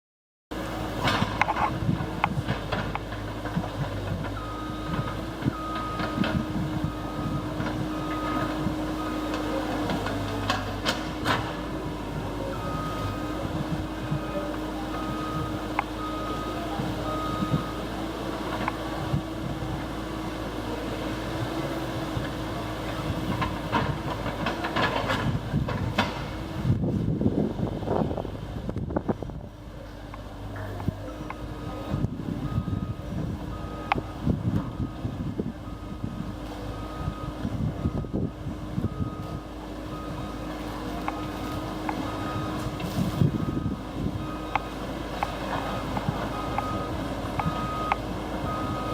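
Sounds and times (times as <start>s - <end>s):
diesel engine running: 0.5s - 48.9s.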